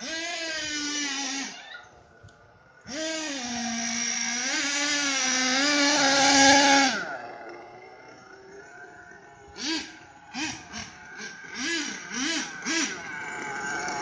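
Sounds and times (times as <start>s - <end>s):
small engine revving hard: 0.0s - 2.0s, 2.6s - 14.0s.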